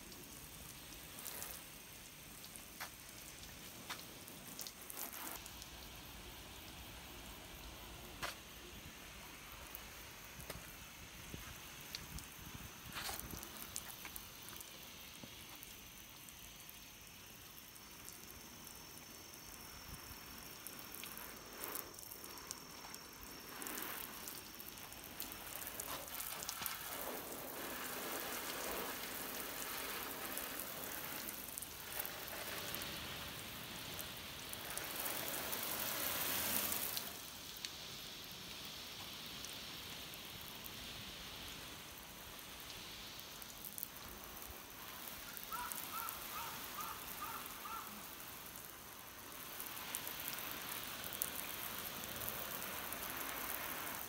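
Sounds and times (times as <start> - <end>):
liquid spray hissing on car: 0.0 - 54.0.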